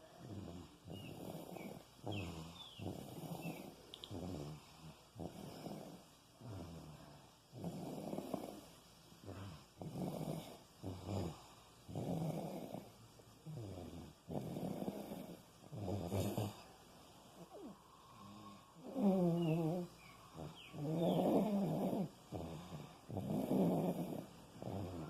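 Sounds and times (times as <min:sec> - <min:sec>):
baby snoring: 0:00.0 - 0:16.8, 0:17.4 - 0:25.0.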